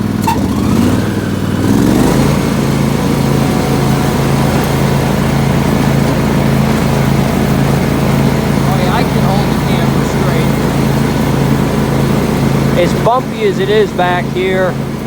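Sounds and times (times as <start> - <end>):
lawn tractor engine mowing: 0.0 - 15.0.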